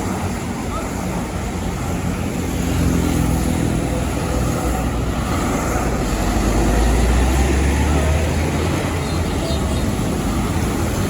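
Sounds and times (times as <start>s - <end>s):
heavy truck engine drone: 0.0s - 11.0s
tyre and road noise: 0.0s - 11.0s.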